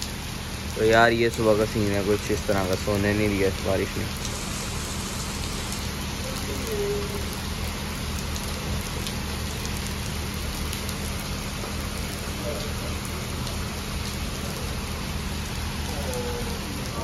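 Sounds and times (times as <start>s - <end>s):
heavy rain hissing: 0.0s - 17.0s
water splashing: 0.0s - 17.0s.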